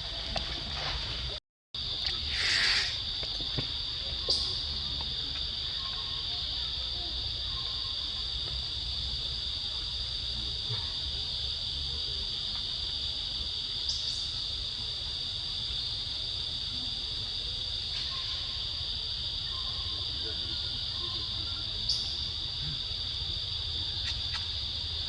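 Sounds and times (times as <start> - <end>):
insect chorus drone: 0.0 - 25.0.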